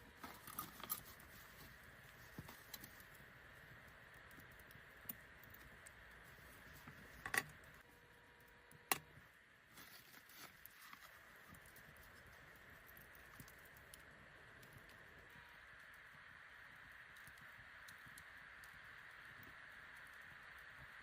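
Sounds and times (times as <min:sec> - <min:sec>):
faint steady hiss: 0:00.0 - 0:21.0
wood fire popping: 0:00.0 - 0:21.0.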